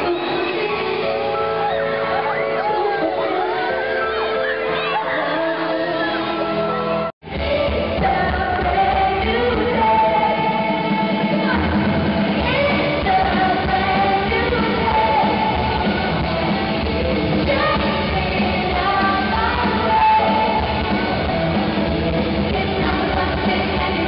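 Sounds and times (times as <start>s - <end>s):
lead vocal singing: 0.0s - 24.0s
live pop-rock band: 0.0s - 24.0s.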